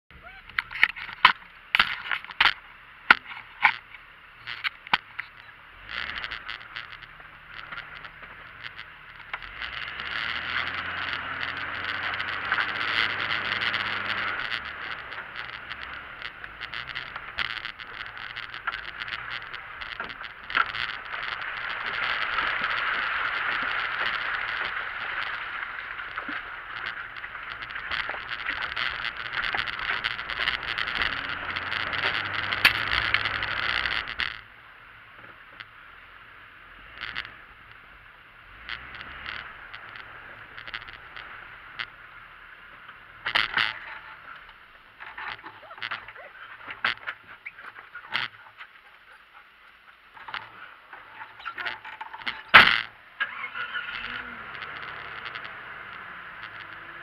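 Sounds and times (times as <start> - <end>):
engine revving under load: 5.6 - 34.4, 36.6 - 57.0.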